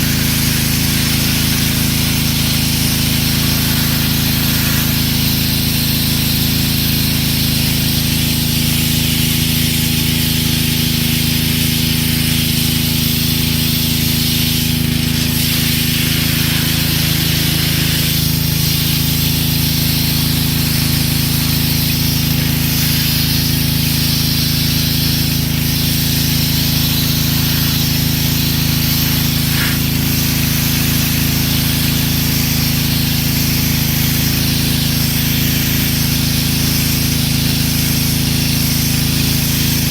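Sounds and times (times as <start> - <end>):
pressure washer motor hum: 0.0 - 39.9
water jet hissing: 0.0 - 39.9.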